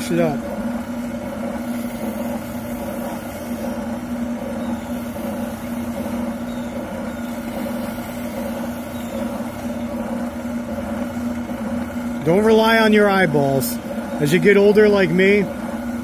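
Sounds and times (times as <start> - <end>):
oscillating sander humming: 0.0 - 16.0.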